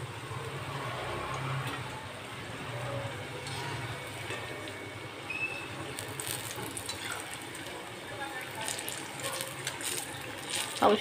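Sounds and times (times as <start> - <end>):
chillies sizzling in hot oil: 0.0 - 11.0.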